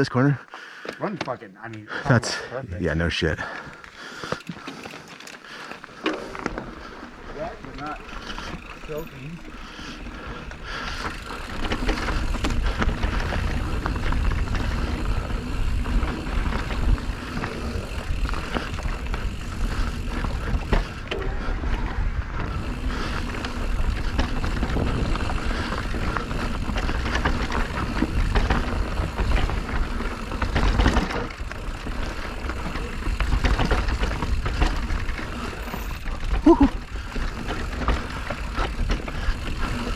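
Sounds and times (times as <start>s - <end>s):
bike tyres rolling: 3.4s - 39.9s
bike knocks and rattles: 4.3s - 39.9s.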